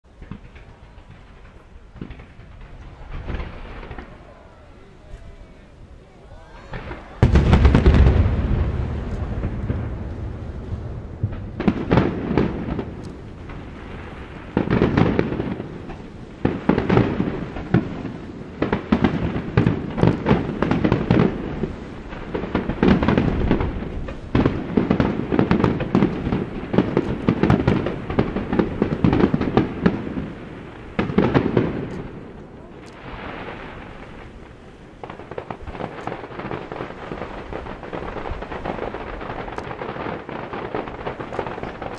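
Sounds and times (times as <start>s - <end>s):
fireworks bangs and crackles: 0.0s - 41.9s
fireworks hissing: 0.2s - 41.9s.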